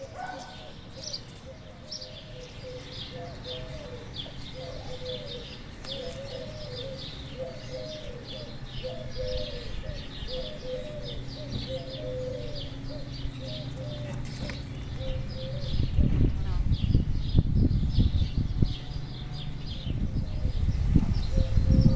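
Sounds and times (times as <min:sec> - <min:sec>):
bird cooing: 0:00.0 - 0:16.3, 0:19.3 - 0:21.9
small birds chirping: 0:00.0 - 0:21.9.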